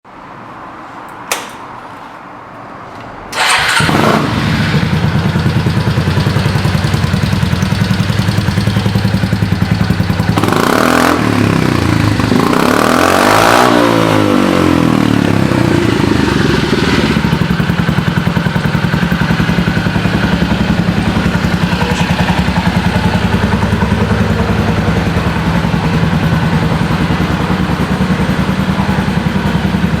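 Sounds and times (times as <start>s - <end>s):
scooter engine revving: 3.3s - 30.0s
scooter engine starting and idling: 3.3s - 30.0s.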